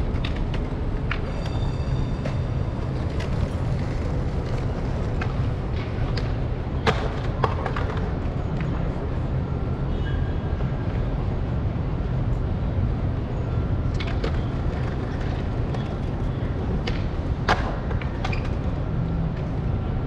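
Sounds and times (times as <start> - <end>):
scooter riding rumble: 0.0 - 20.0.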